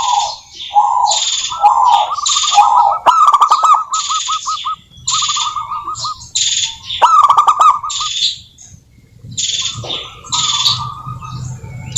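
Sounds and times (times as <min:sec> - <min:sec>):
doves cooing: 0:00.0 - 0:11.9
high chirping: 0:00.0 - 0:11.9.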